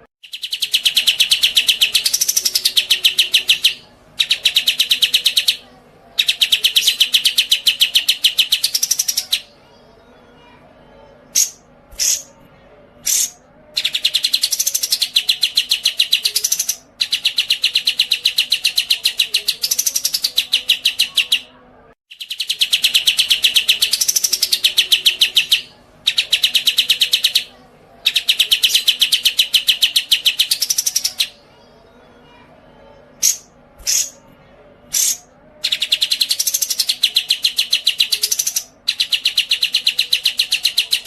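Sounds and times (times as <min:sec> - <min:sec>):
songbird chirps and trills: 0:00.0 - 0:41.0.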